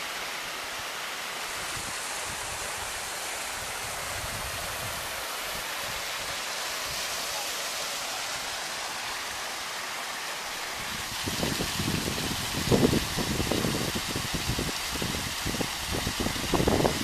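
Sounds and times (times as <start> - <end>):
stream rushing over boulders: 0.0 - 17.0.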